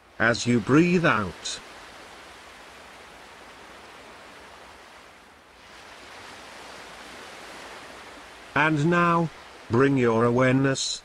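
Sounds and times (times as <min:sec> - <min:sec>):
ocean waves washing ashore: 0:00.0 - 0:11.0.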